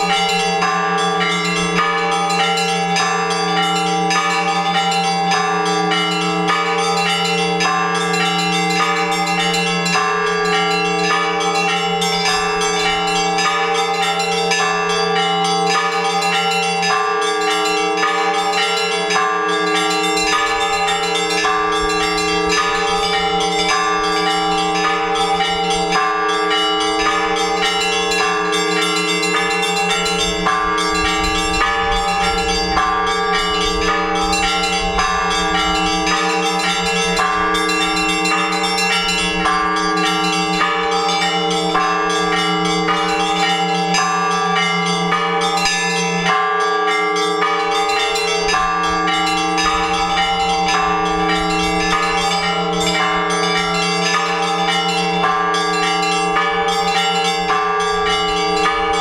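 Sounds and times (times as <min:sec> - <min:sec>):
church bells ringing a peal: 0:00.0 - 0:59.0
deep bells humming: 0:00.0 - 0:59.0.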